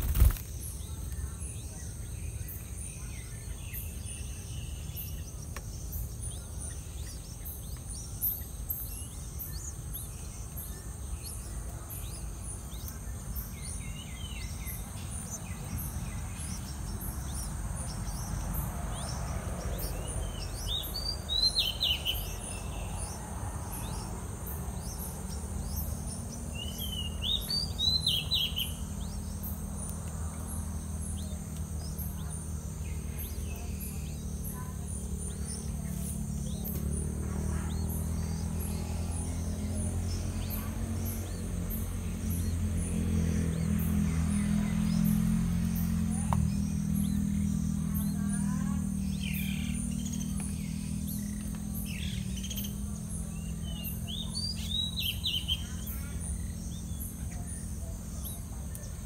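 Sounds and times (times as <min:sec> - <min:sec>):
birds chirping: 0:00.0 - 0:59.0
rapid high insect ticking: 0:00.0 - 0:59.0.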